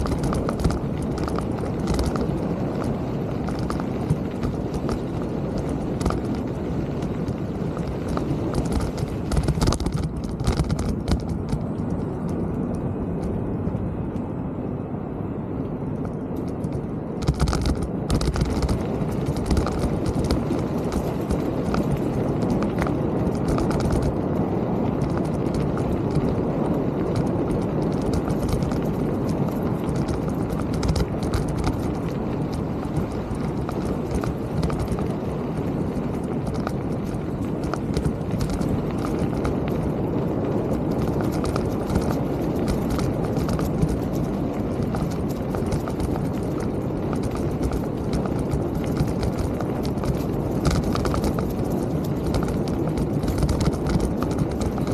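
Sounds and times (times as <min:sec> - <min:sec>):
bike clicks and rattles: 0:00.0 - 0:14.3, 0:15.9 - 0:54.9
bike tyres rumbling on trail: 0:00.0 - 0:54.9.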